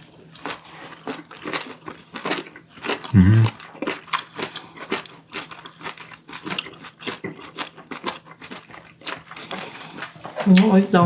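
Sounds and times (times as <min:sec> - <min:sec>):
wet chewing and crunching: 0:00.0 - 0:10.7.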